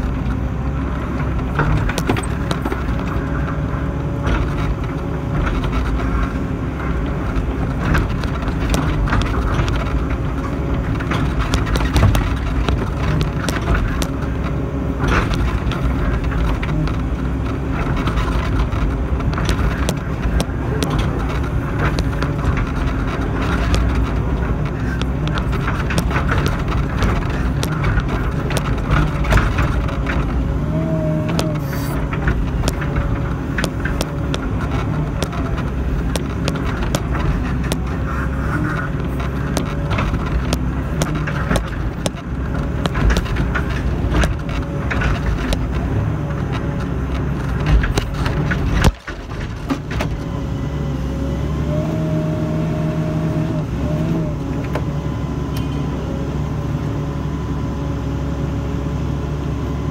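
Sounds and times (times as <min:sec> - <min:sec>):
excavator diesel engine: 0:00.0 - 0:59.9
machine clanks and knocks: 0:01.0 - 0:38.0, 0:38.8 - 0:50.3
hydraulic whine: 0:01.1 - 0:58.0.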